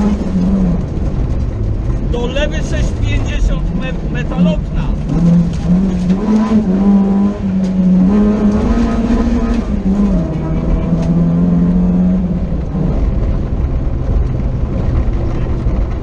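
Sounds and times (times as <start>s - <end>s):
car engine running hard: 0.0s - 16.0s
road and wind noise: 0.0s - 16.0s.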